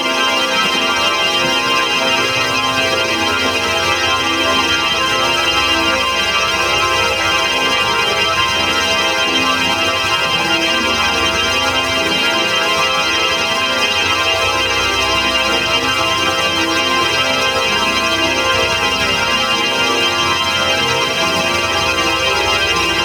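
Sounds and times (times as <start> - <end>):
organ sustained chord: 0.0 - 23.0.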